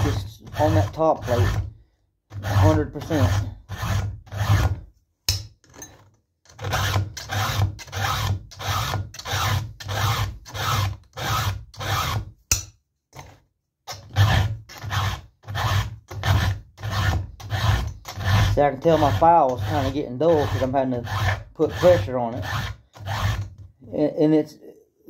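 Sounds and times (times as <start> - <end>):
file rasping on saw chain: 0.0 - 1.7, 2.3 - 4.9, 5.9 - 12.3, 13.9 - 23.6.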